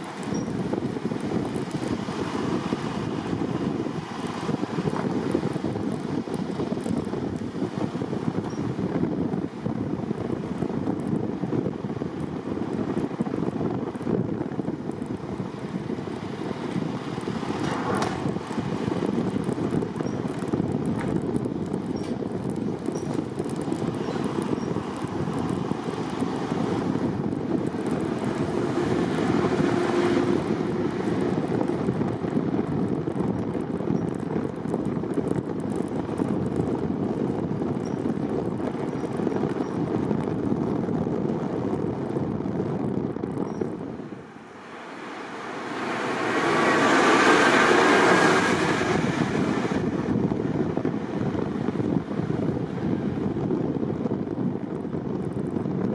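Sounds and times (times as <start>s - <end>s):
car road and wind noise: 0.0s - 55.9s.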